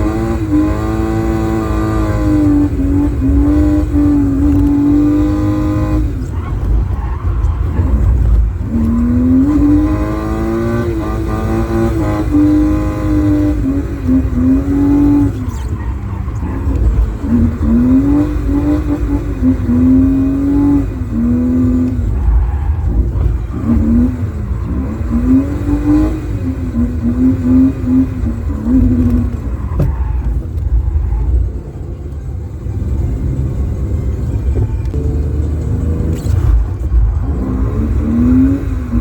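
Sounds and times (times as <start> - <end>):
car engine revving: 0.0 - 39.0
road rumble: 0.0 - 39.0.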